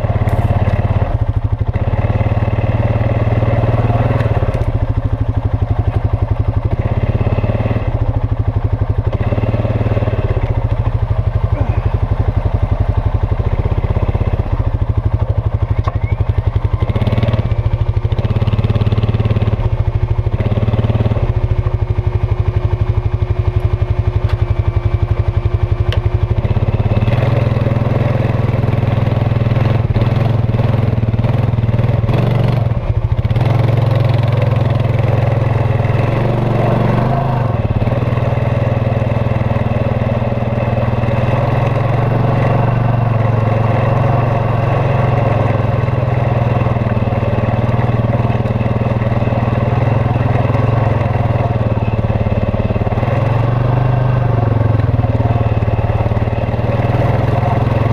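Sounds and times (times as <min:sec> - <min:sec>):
quad engine running: 0:00.0 - 0:57.9.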